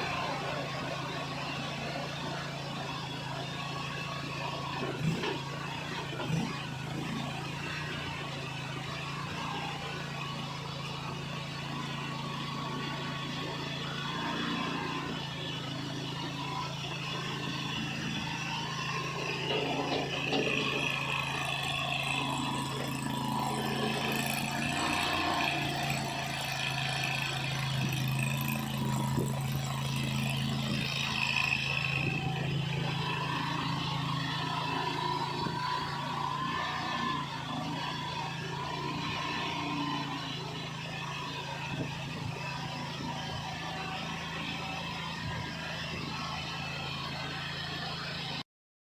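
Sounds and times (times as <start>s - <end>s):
machine working noise: 0.0s - 48.3s
gasoline engine running: 0.0s - 48.4s.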